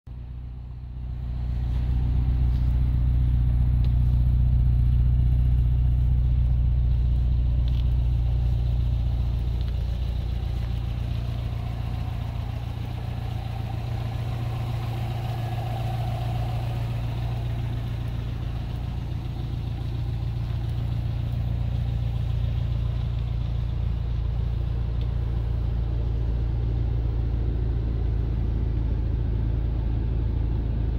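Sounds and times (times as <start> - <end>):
car engine idling: 0.1 - 30.9.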